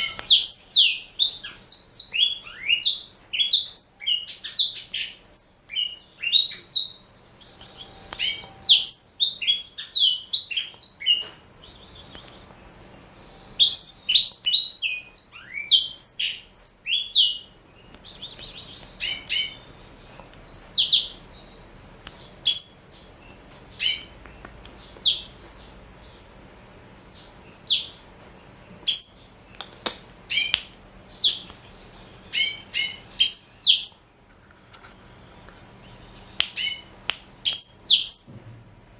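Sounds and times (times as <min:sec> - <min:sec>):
canary singing: 0:00.0 - 0:26.3, 0:26.9 - 0:34.3, 0:35.0 - 0:38.4.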